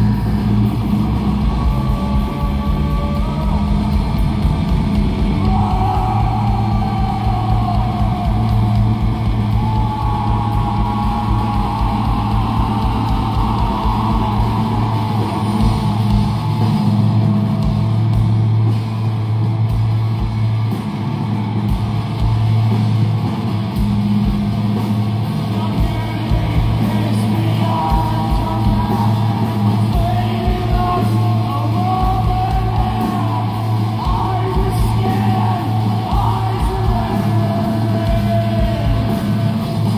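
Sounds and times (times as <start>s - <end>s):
live rock band: 0.0s - 39.9s.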